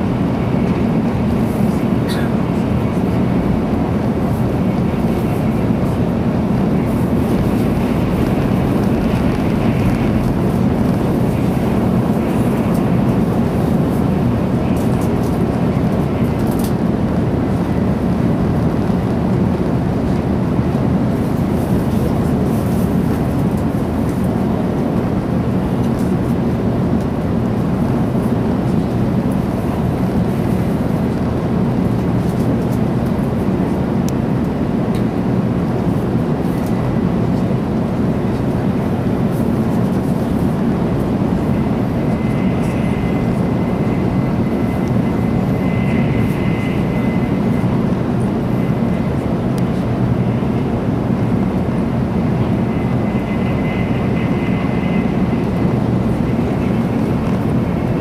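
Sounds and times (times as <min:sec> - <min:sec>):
train running noise in cabin: 0:00.0 - 0:58.0.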